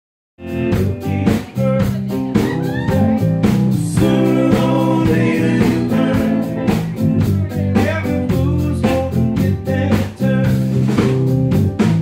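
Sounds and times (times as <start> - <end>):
drum beat: 0.4 - 12.0
electric guitars: 0.4 - 12.0
person singing: 0.5 - 10.8.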